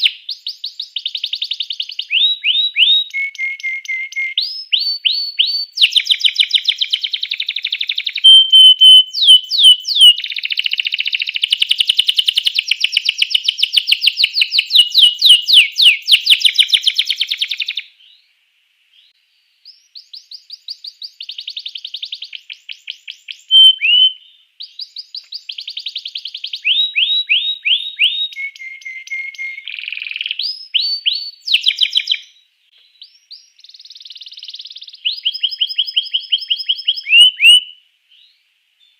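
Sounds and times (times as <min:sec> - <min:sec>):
canary singing trills: 0:00.0 - 0:18.3, 0:18.9 - 0:38.9.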